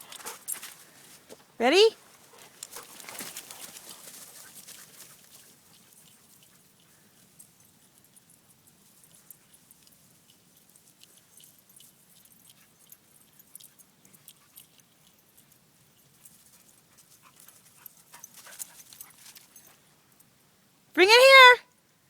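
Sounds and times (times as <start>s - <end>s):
light clicks and rustles: 2.1s - 20.3s.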